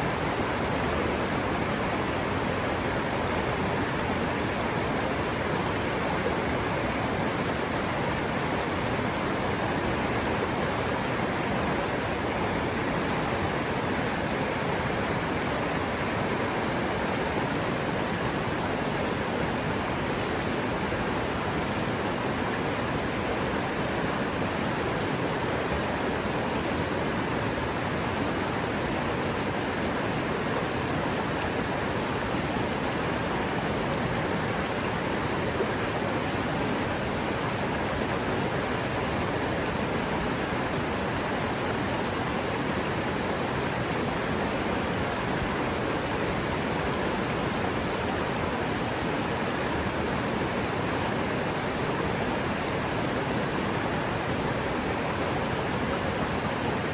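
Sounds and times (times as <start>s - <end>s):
river water running over rocks: 0.0s - 56.9s.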